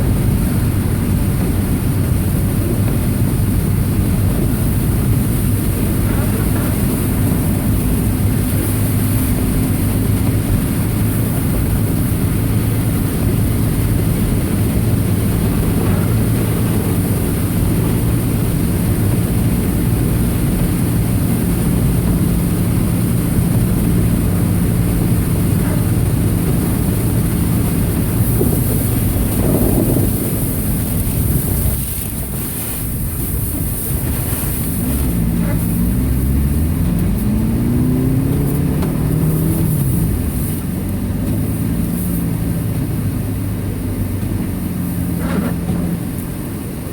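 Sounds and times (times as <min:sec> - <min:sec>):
car engine running: 0:00.0 - 0:46.9
road noise: 0:00.0 - 0:46.9.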